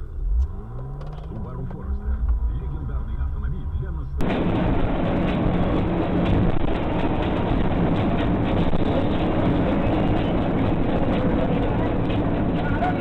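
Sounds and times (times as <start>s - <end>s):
road rumble: 0.0s - 13.0s
vehicle engine: 0.0s - 13.0s.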